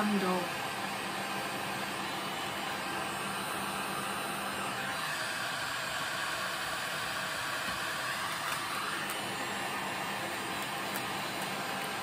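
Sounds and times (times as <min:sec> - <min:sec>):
heat gun fan blowing: 0:00.0 - 0:12.0.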